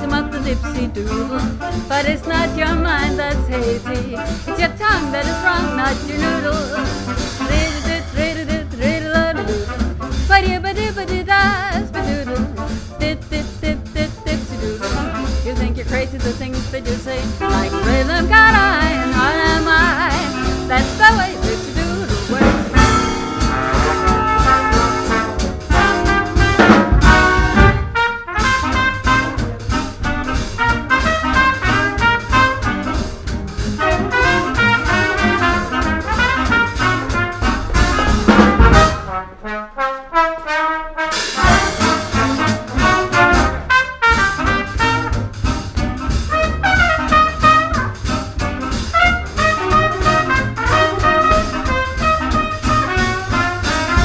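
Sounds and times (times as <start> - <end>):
swing band playing: 0.0 - 54.0.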